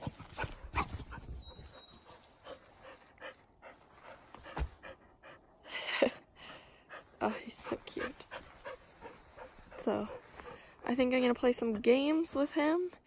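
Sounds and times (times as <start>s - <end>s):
dog panting: 0.0s - 11.2s.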